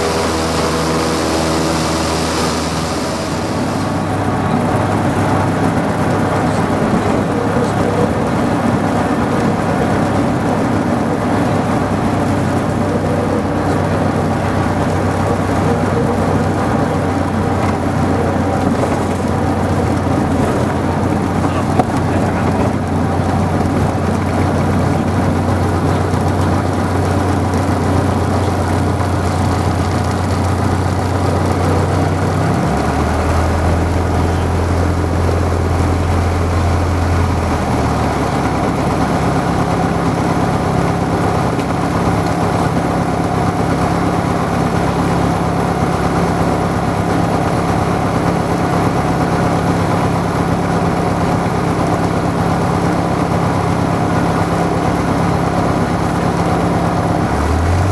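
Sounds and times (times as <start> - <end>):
light aircraft engine and propeller: 0.0 - 57.9.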